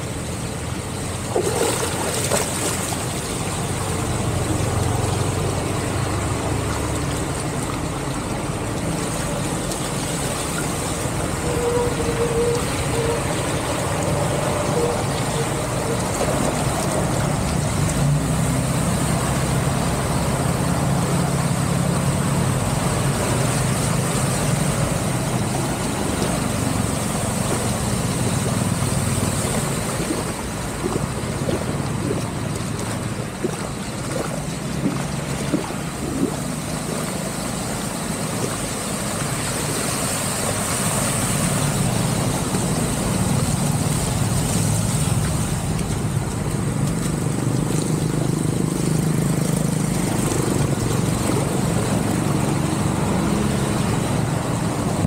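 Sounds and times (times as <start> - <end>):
water swishing under wheels: 0.0 - 55.0.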